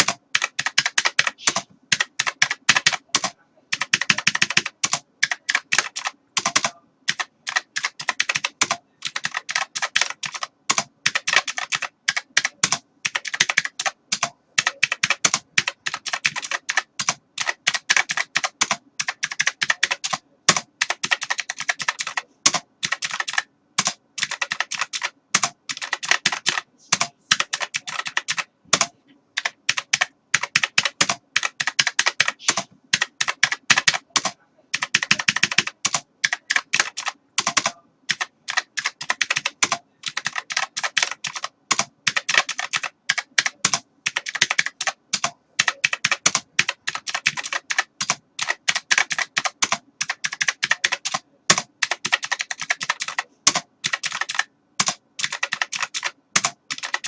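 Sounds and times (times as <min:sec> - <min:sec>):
keyboard typing clicks: 0:00.0 - 0:57.0.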